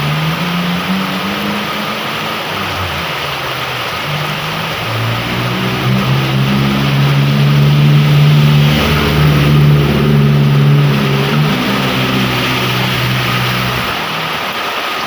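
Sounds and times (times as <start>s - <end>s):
heavy rain hissing: 0.0s - 15.0s
vehicle engine running: 0.0s - 15.0s.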